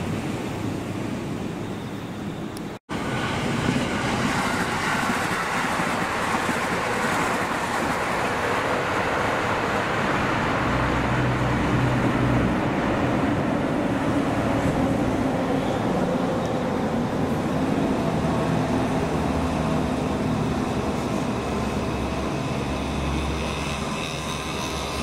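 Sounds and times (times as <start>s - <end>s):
train wheels rumbling on rail: 2.9s - 25.0s.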